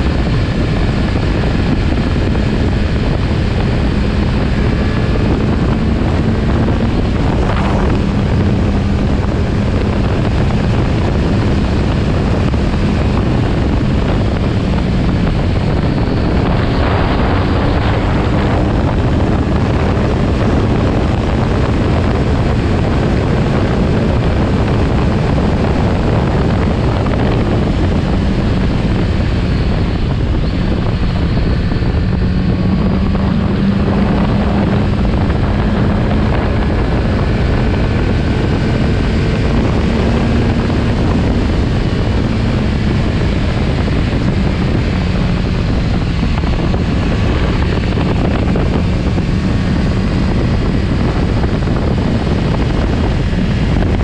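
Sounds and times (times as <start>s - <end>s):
motorcycle engine running: 0.0s - 54.0s
wind rushing on microphone: 0.0s - 54.0s.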